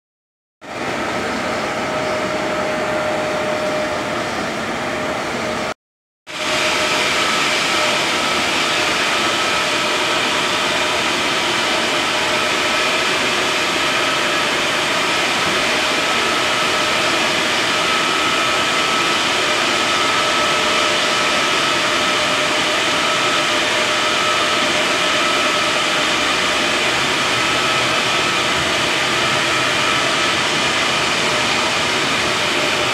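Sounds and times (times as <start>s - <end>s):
printer whirring: 6.4s - 32.9s.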